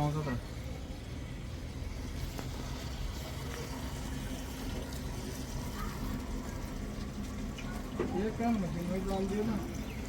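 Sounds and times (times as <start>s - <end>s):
water rushing: 0.0s - 10.0s.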